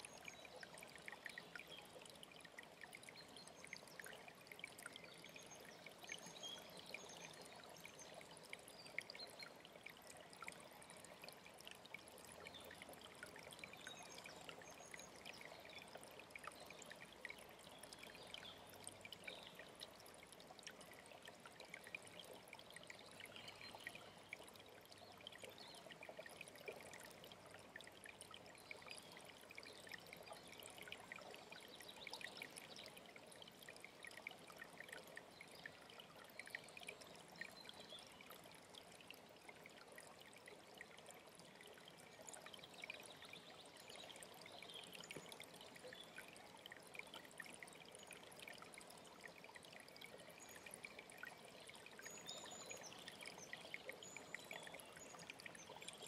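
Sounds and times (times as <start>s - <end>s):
stream trickling water: 0.0s - 56.0s.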